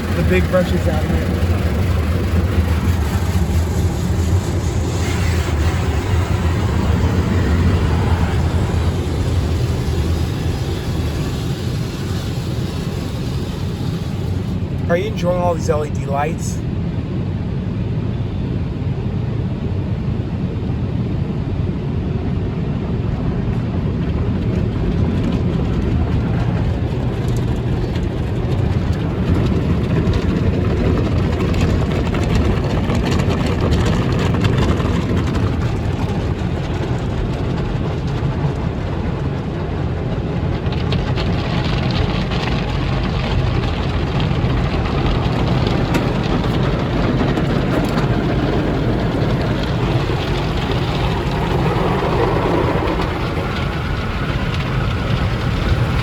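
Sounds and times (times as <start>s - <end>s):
car wash machinery rumbling: 0.0s - 17.4s, 19.4s - 56.0s.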